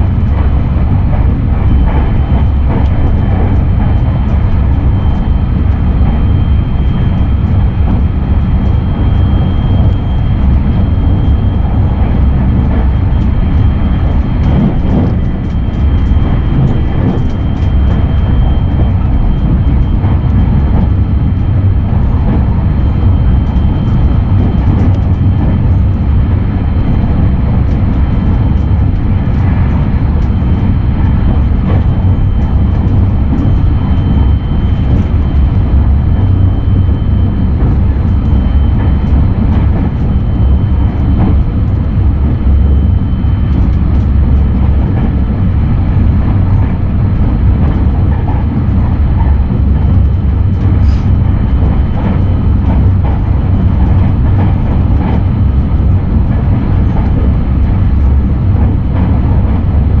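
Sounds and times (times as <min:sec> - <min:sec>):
train rumble from inside: 0:00.0 - 1:00.0.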